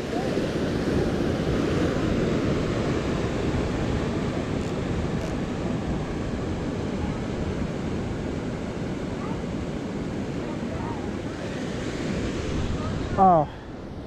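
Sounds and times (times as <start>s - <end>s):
ocean surf washing: 0.0s - 14.0s
wind on microphone: 0.0s - 14.0s.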